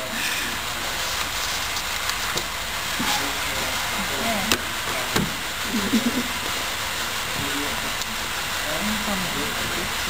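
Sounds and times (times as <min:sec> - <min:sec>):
faint murmuring voices: 0:00.0 - 0:10.0
steady background hiss: 0:00.0 - 0:10.0.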